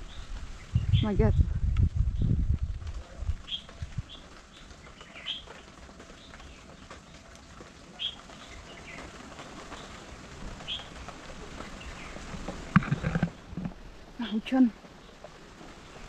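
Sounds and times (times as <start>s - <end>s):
birds chirping: 0.0s - 1.5s, 2.1s - 16.0s
light rain hiss: 0.0s - 16.0s.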